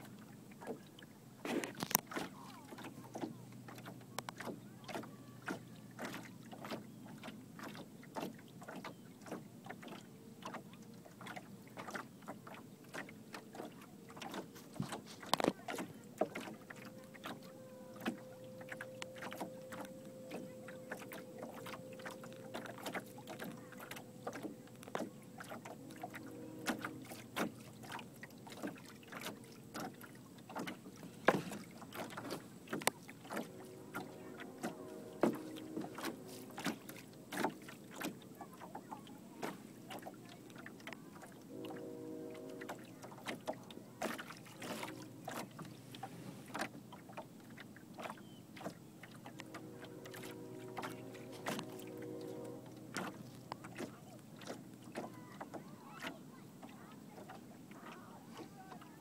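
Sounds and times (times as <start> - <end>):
waves lapping against hull: 0.0 - 59.0.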